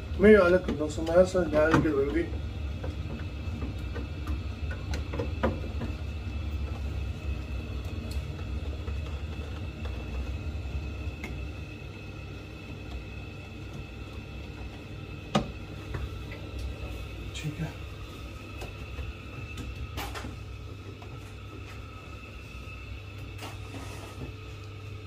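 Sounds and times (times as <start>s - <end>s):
gas boiler humming: 0.0s - 25.0s.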